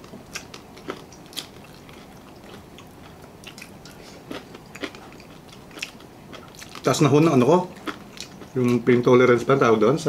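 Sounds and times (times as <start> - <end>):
chewing fried chicken: 0.0 - 8.9.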